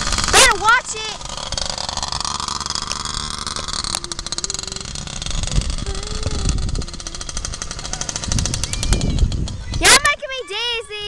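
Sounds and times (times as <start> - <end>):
dirt bike engine putter: 1.2 - 10.2.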